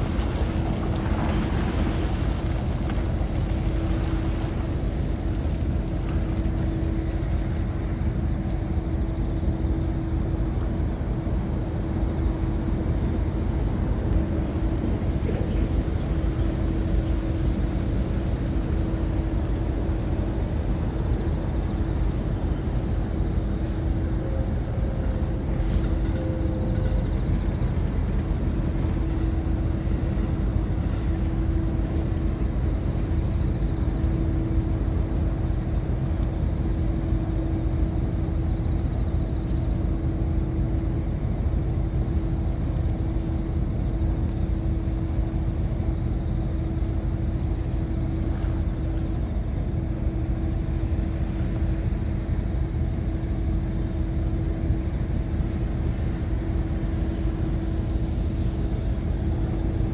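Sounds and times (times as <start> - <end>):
boat turbine rumble and hum: 0.0 - 59.9.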